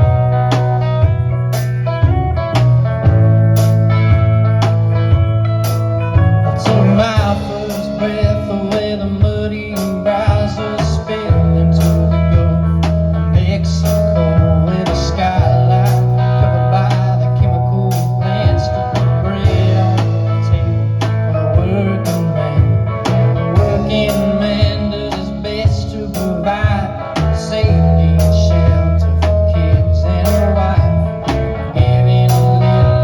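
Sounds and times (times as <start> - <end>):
live band playing country song: 0.0 - 33.0.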